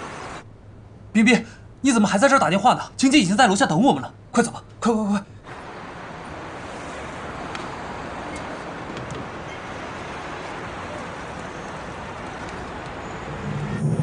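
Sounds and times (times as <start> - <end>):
distant traffic hiss: 0.0 - 14.0.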